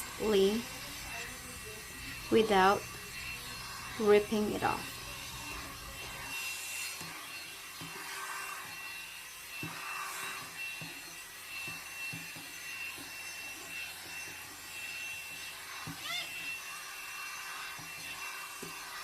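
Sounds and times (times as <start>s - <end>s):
brush rubbing through hair: 0.0s - 12.1s, 13.7s - 19.0s
hot air brush motor whine: 0.0s - 19.0s.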